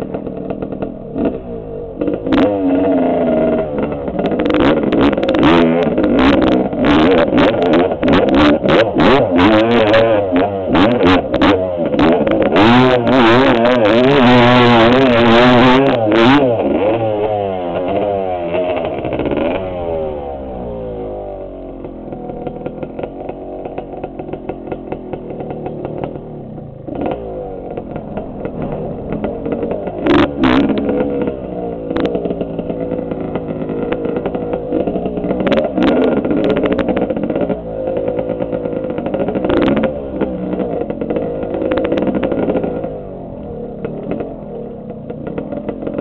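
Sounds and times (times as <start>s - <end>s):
clatter from bike: 0.0s - 46.0s
dirt bike engine revving: 0.0s - 46.0s.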